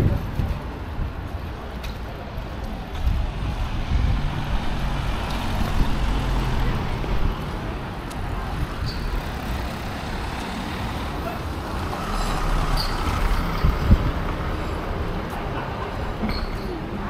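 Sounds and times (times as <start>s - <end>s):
passing traffic rumble: 0.0s - 17.0s.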